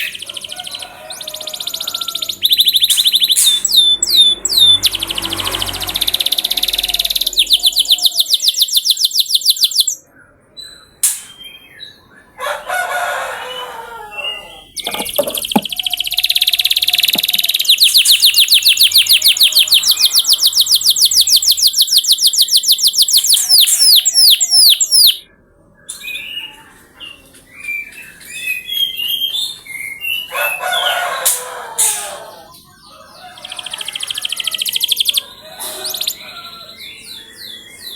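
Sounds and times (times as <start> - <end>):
canary singing trills: 0.0 - 37.9.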